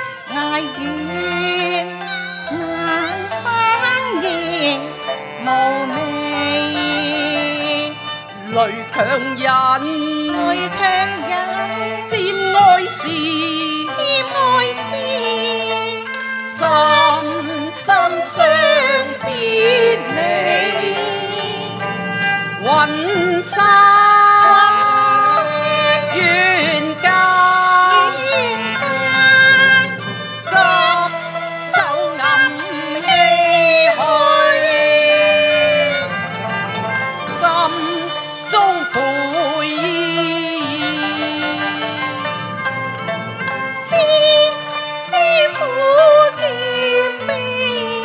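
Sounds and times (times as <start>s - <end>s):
opera singing with vibrato: 0.0s - 42.2s, 43.7s - 48.0s
instrumental accompaniment: 0.0s - 48.0s.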